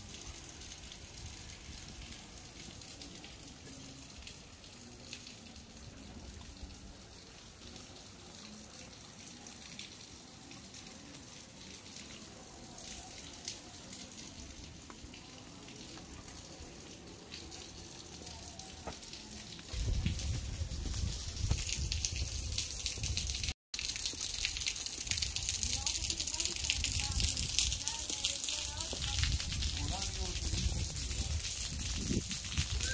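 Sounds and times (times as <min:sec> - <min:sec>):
light rain pattering: 0:00.0 - 0:32.9.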